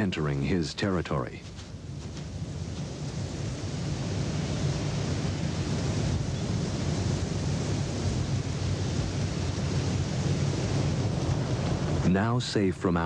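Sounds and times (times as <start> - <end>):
wind on microphone: 1.0 - 12.8.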